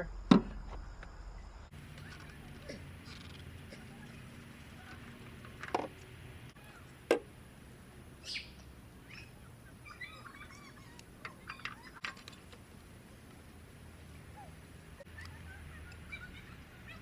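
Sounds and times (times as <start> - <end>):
faint bird chirps: 0.0 - 5.3, 6.0 - 7.5, 8.1 - 12.4, 14.1 - 17.0.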